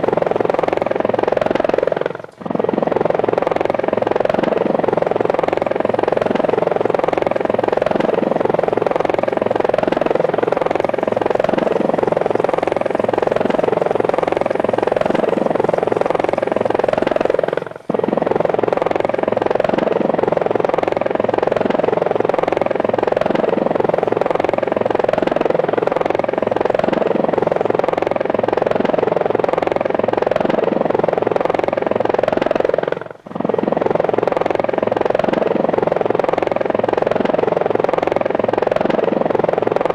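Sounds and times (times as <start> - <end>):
model helicopter buzzing: 0.0 - 39.9.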